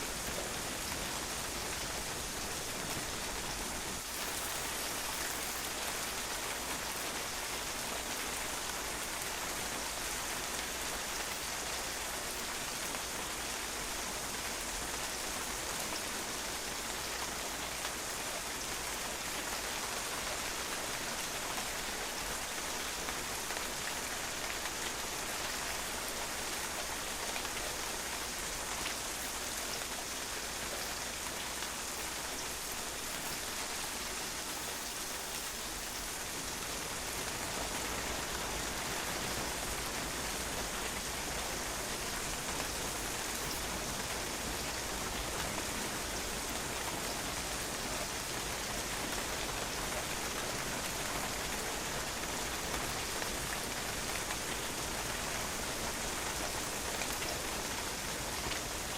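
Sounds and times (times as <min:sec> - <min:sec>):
rain falling on a patio: 0:00.0 - 0:58.9.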